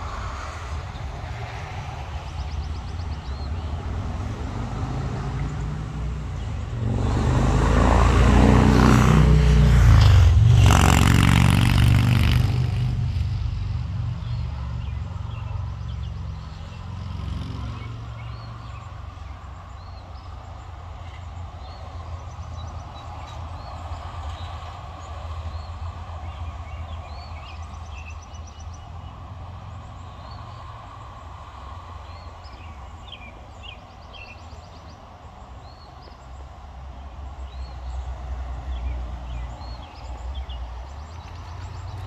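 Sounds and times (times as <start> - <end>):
vehicle driving past: 0.0 - 33.7
low traffic rumble: 0.0 - 42.0.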